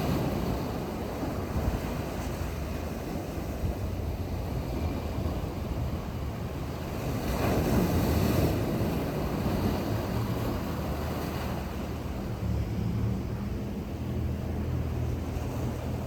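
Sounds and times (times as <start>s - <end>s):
sea waves washing in: 0.0s - 16.0s
wind rumble on microphone: 0.0s - 16.0s.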